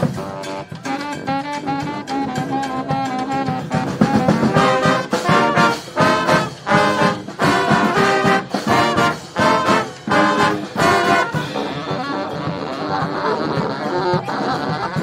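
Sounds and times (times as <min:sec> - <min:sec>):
brass band playing: 0:00.0 - 0:15.0
drums: 0:00.0 - 0:15.0.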